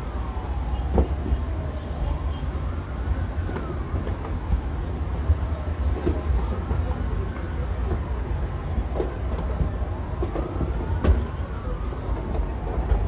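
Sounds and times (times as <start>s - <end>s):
faint sirens wailing: 0.0s - 13.0s.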